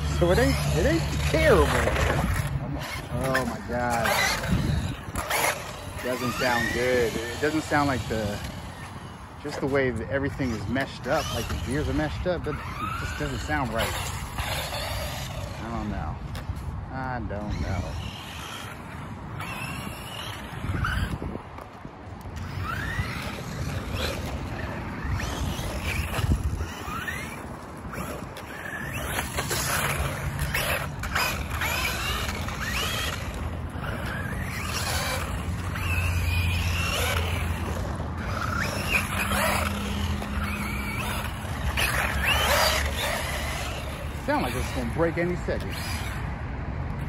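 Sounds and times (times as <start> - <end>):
rc truck motor whine: 0.0 - 46.3
tires and drivetrain rumble: 0.0 - 47.0.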